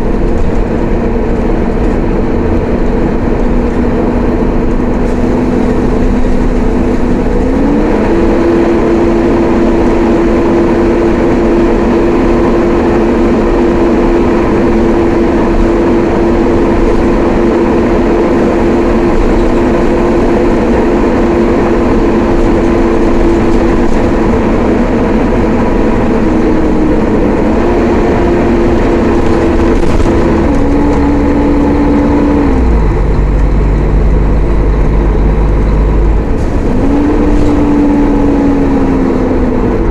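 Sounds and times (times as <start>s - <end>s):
bus engine whine: 0.0s - 39.9s
deep engine rumble: 0.0s - 39.9s.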